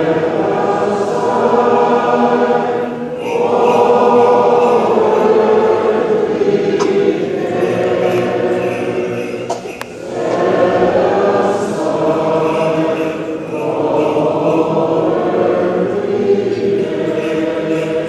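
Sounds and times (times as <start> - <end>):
choir singing chant: 0.0 - 18.0.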